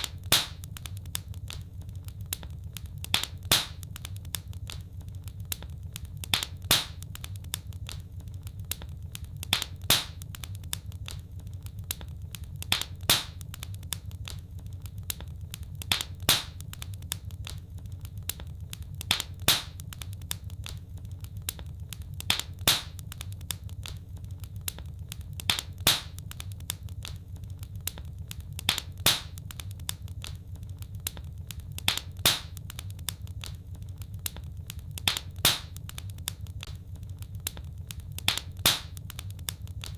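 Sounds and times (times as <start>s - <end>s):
sharp pops of fire: 0.0s - 39.9s
wood fire crackling: 0.0s - 39.9s.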